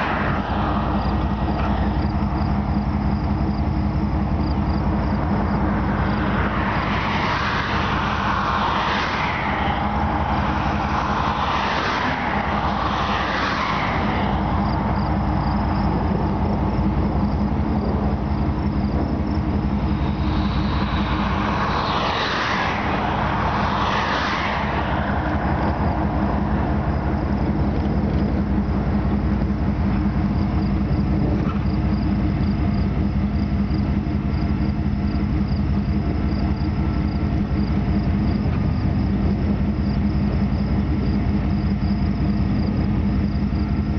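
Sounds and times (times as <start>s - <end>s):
passing traffic: 0.0s - 43.9s
road noise: 0.0s - 43.9s
vehicle engine humming: 0.0s - 43.9s.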